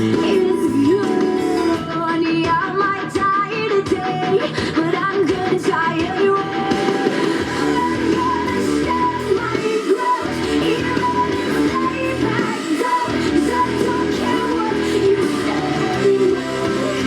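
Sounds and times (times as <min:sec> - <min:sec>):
hard rock song: 0:00.0 - 0:17.0
woman singing: 0:00.0 - 0:17.0.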